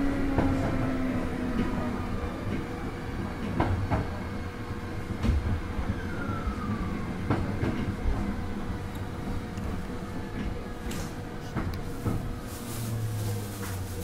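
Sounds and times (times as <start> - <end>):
falling whine of train: 0.0 - 14.0
train rolling with low rumble: 0.0 - 14.0.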